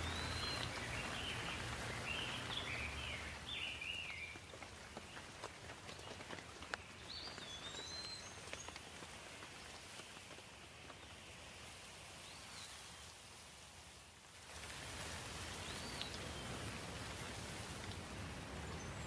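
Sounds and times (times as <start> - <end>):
raindrops pattering: 0.0 - 13.2, 14.1 - 19.0
steady rain falling: 0.0 - 19.0.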